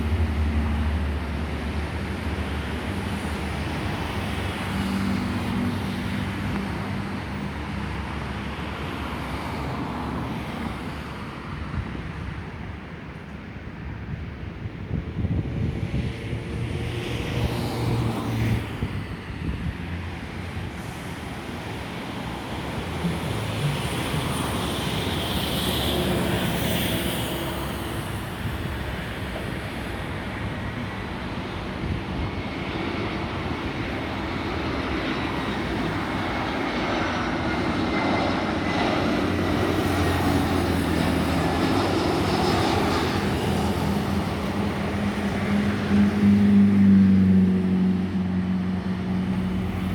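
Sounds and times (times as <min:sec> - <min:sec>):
jet engine rumble with whine: 0:00.0 - 0:49.9.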